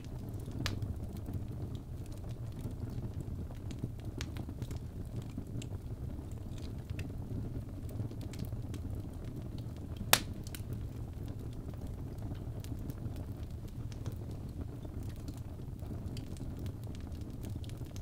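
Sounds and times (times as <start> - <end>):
fire crackling: 0.0 - 18.0
low rumble of flames: 0.0 - 18.0.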